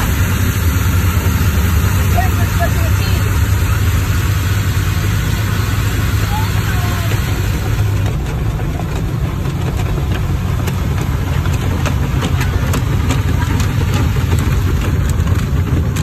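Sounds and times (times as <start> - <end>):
car wash rumble: 0.0 - 16.0
water jets spraying on windshield: 0.0 - 16.0.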